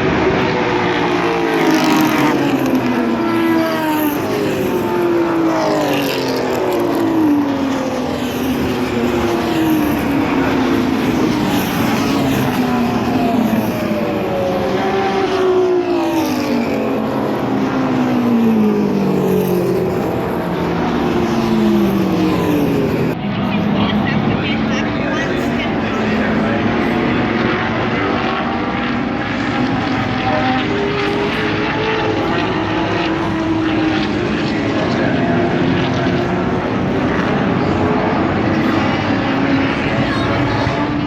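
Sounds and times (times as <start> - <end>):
race car engines passing: 0.0 - 41.0.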